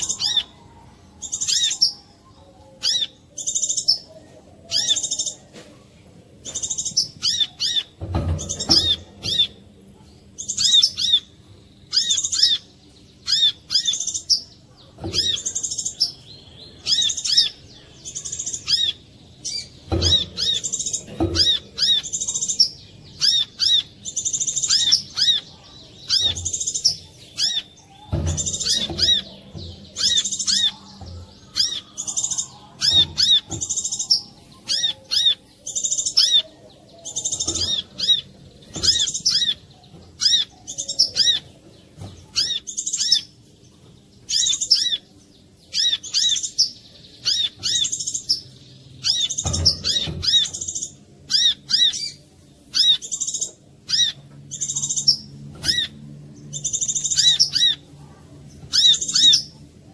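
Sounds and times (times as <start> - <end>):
bird chirping and trilling: 0.0 - 5.5, 6.3 - 59.9.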